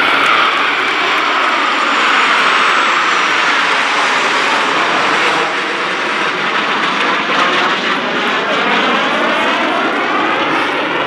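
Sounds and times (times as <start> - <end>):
jets flying past: 0.0 - 11.0.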